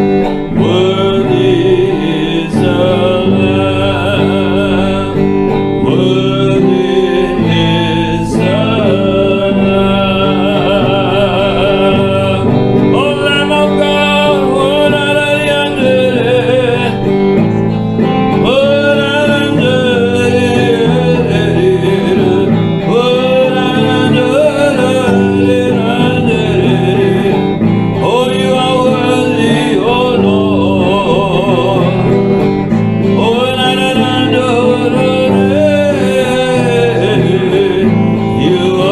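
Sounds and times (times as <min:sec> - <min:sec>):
guitar: 0:00.0 - 0:38.9
person singing with vibrato: 0:00.0 - 0:38.9
sustained instrumental backing: 0:00.0 - 0:38.9.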